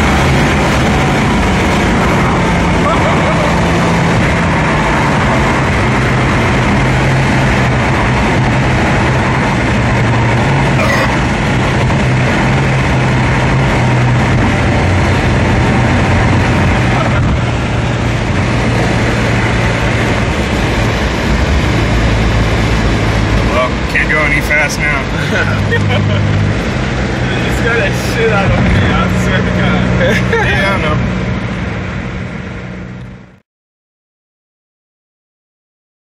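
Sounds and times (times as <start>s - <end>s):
car engine at highway speed: 0.0s - 33.4s
road and wind noise: 0.0s - 33.4s.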